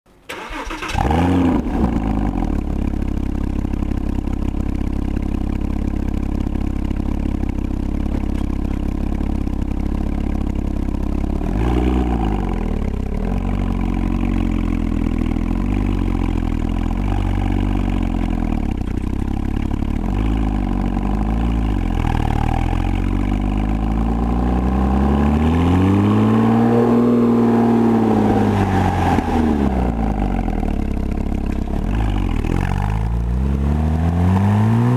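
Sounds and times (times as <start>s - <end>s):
car engine idling and revving: 0.1s - 34.9s.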